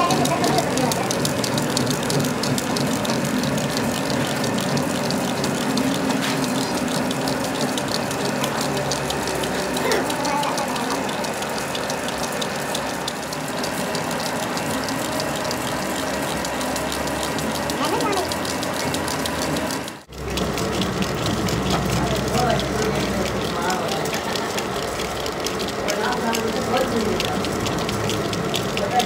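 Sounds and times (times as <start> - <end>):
fast dense ticking: 0.0 - 29.0.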